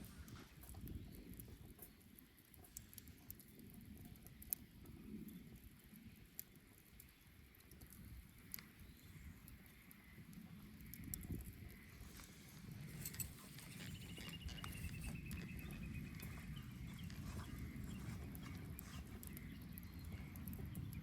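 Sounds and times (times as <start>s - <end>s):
burning wood popping: 0.0s - 21.0s
faint bonfire crackling: 0.0s - 21.0s.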